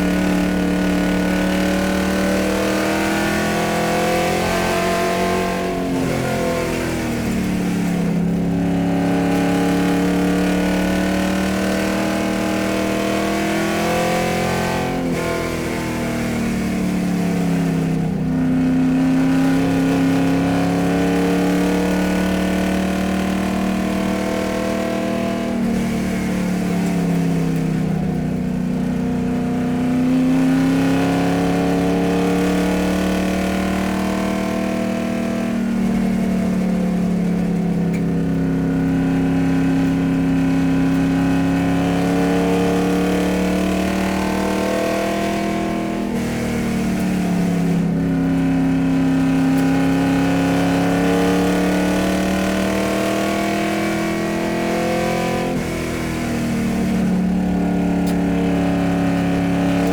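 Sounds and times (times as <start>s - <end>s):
motor vehicle engine running: 0.0s - 59.9s.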